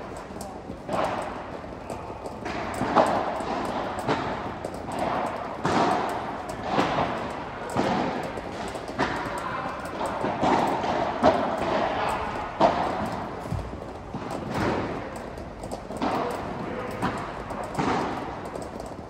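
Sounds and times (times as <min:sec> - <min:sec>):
ball bouncing on court: 0:00.1 - 0:19.0
paddle striking ball: 0:02.2 - 0:15.2, 0:16.0 - 0:18.5.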